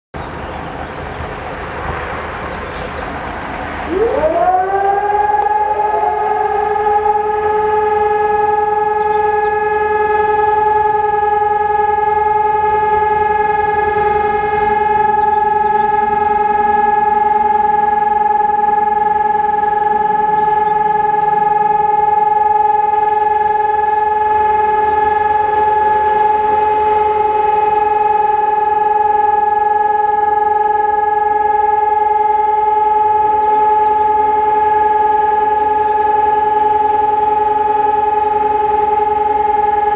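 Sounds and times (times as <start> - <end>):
electronic siren tone: 0.6 - 39.9.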